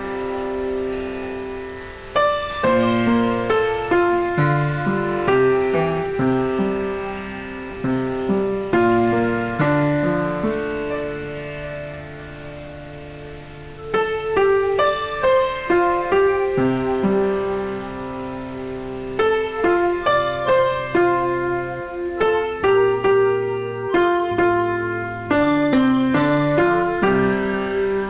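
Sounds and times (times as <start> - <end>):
slow piano music: 0.0 - 28.0.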